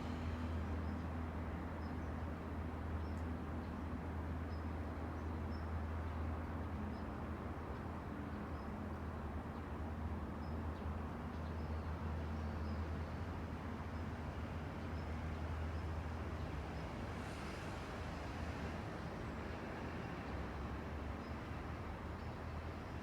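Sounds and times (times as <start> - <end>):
wind: 0.0 - 23.0.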